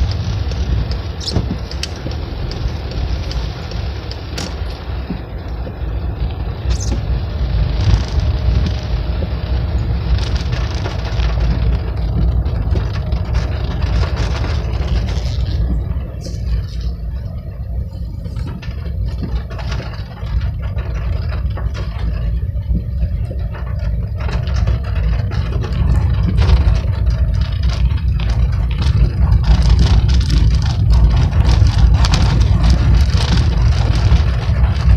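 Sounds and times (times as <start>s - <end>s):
rain hissing: 0.0s - 34.9s
raindrops ticking: 0.0s - 34.9s
vehicle engine rumble: 0.0s - 34.9s.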